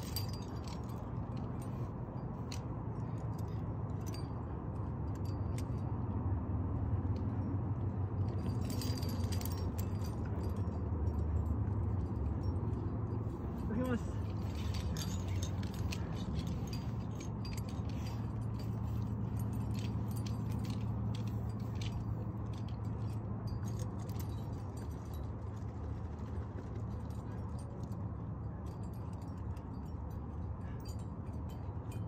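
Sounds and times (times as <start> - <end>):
metal climbing gear clinking: 0.0 - 32.0
steady low rumble: 0.0 - 32.0.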